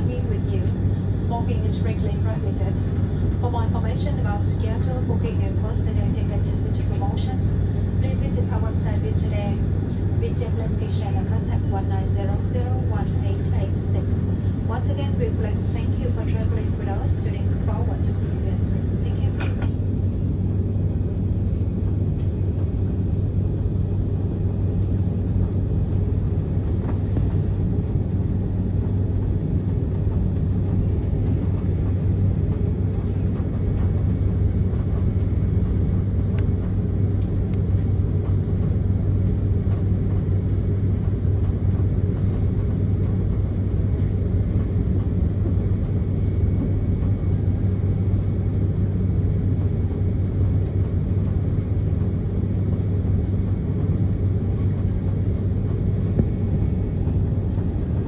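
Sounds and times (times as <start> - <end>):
cabin air system hum: 0.0 - 58.0
jet engines idling rumble: 0.0 - 58.0.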